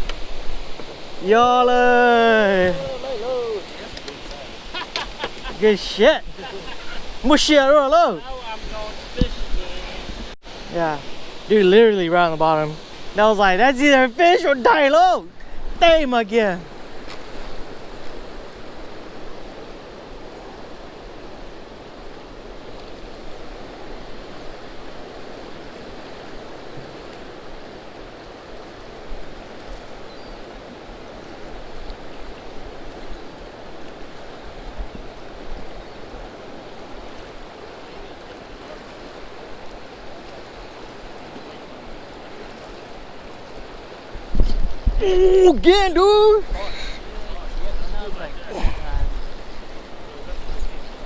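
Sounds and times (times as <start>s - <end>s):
rain falling on water: 0.0s - 51.0s.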